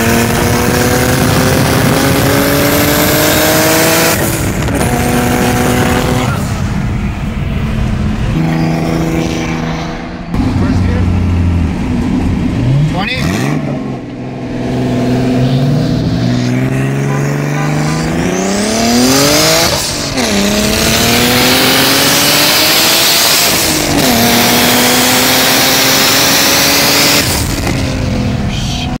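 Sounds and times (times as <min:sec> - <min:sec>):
car engine accelerating: 0:00.0 - 0:29.0
wind and road noise: 0:00.0 - 0:29.0.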